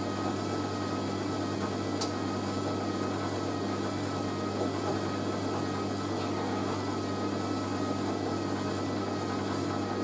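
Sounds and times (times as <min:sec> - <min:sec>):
washing machine spinning: 0:00.0 - 0:10.0.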